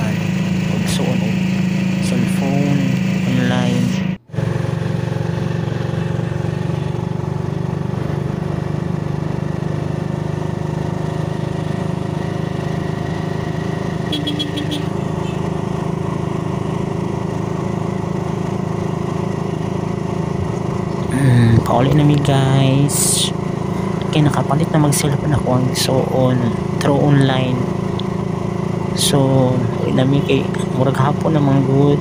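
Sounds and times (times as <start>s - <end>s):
road noise: 0.0s - 32.0s
small motorcycle engine running: 0.0s - 32.0s.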